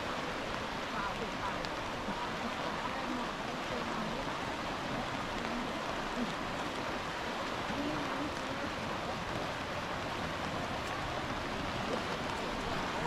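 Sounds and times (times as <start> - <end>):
falling rain: 0.0 - 13.0
river rushing over stones: 0.0 - 13.0.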